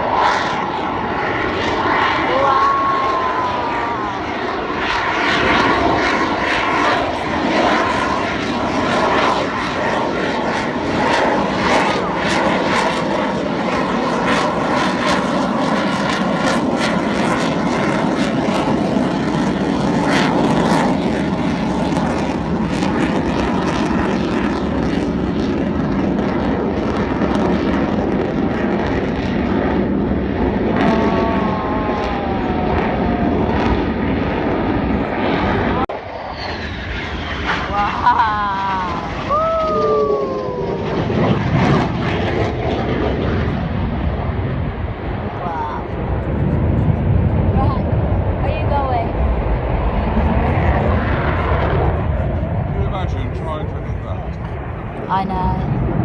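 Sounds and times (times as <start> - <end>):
aircraft engines rushing: 0.0 - 56.0
falling-pitch aircraft whine: 0.0 - 56.0.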